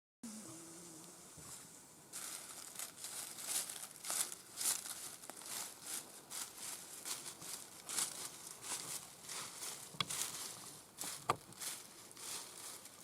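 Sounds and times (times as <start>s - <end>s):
dry leaves crunching: 2.1s - 13.0s.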